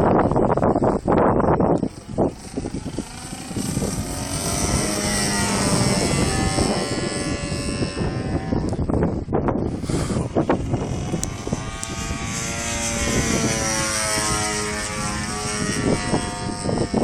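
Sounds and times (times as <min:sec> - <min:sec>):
model plane motor and propeller: 0:00.0 - 0:17.0
wind buffeting microphone: 0:00.0 - 0:17.0.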